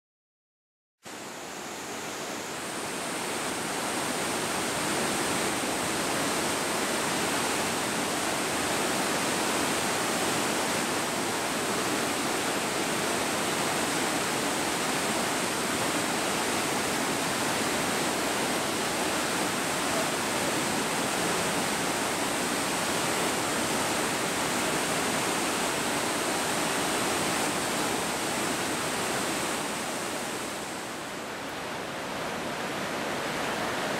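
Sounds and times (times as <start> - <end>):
river rushing through rapids: 1.1 - 33.9.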